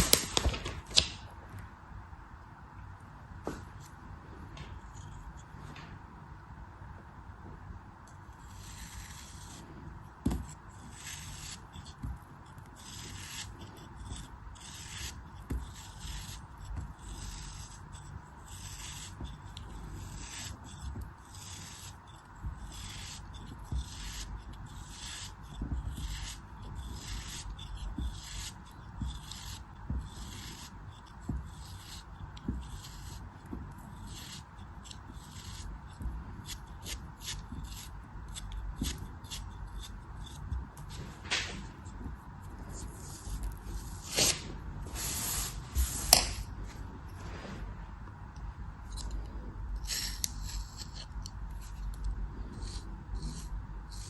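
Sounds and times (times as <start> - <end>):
scraping through crumbly material: 0.0 - 1.3, 8.3 - 54.0.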